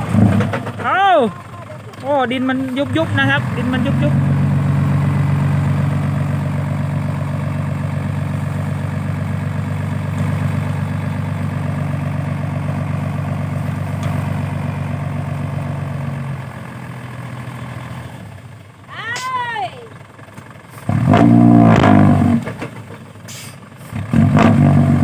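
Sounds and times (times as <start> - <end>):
heavy vehicle engine idling: 0.0 - 21.6, 22.3 - 24.1.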